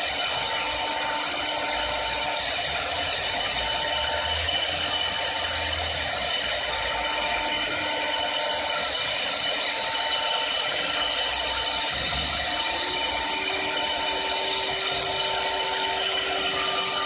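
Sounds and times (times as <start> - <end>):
lathe cutting wood with whine: 0.0 - 17.0.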